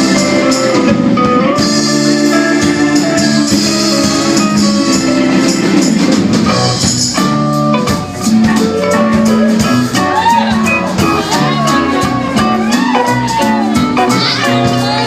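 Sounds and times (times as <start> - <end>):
bending melody line: 0.0 - 15.0
live rock band playing: 0.0 - 15.0.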